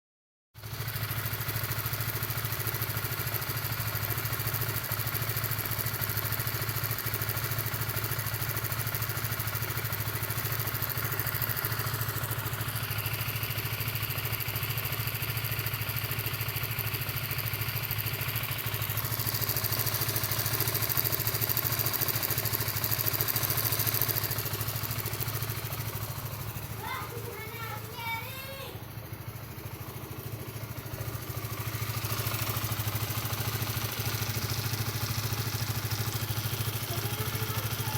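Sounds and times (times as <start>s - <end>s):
motorcycle engine idling: 0.6s - 37.9s.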